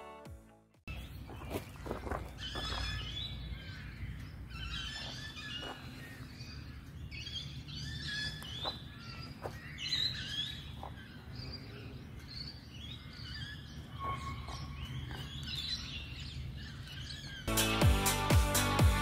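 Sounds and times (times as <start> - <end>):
songbirds chirping and singing: 0.9 - 19.0.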